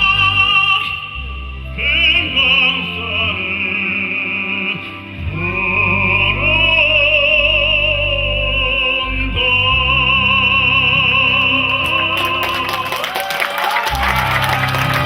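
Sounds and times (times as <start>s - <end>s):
low accompaniment: 0.0s - 15.0s.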